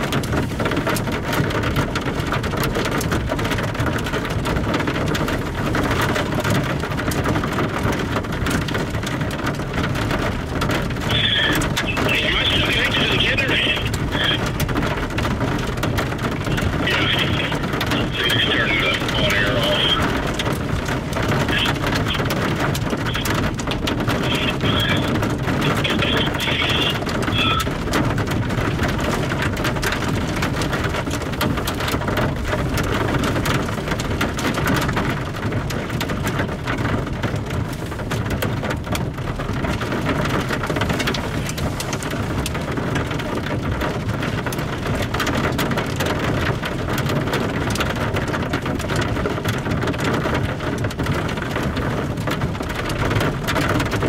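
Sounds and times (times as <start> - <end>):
rain on car roof: 0.0 - 54.0.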